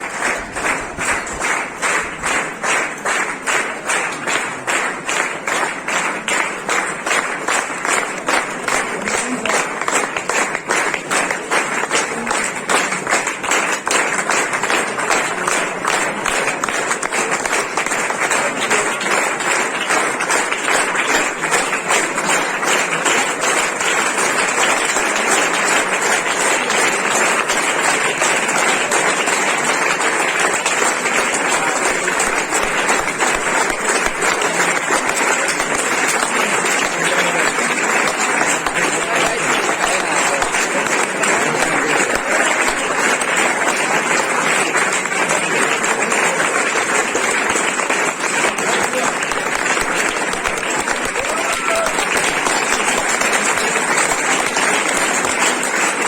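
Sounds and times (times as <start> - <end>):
crowd applause: 0.0 - 56.0
crowd clapping in unison: 0.0 - 56.0.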